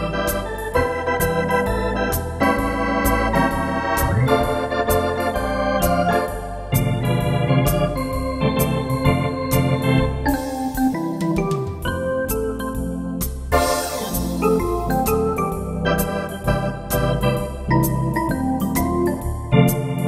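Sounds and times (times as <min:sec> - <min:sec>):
electronic organ chords: 0:00.0 - 0:20.0
organ pedal bass notes: 0:00.0 - 0:20.0.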